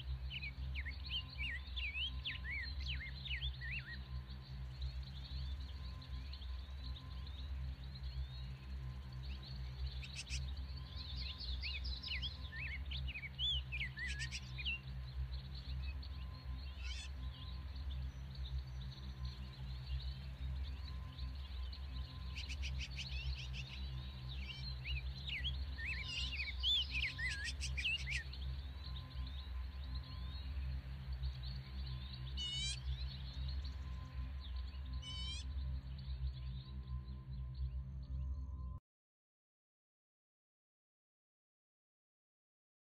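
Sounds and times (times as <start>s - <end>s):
wild birds chirping: 0.0s - 38.3s.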